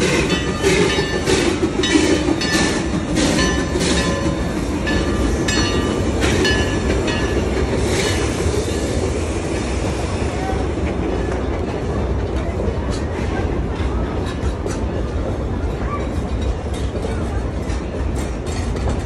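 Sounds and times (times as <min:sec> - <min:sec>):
wheels clacking over rail joints: 0:00.0 - 0:09.8, 0:10.7 - 0:19.0
steam train rumbling: 0:00.0 - 0:19.0.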